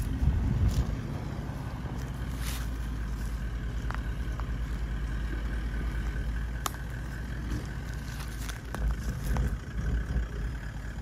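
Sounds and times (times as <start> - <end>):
vehicle engine running low: 0.0 - 11.0.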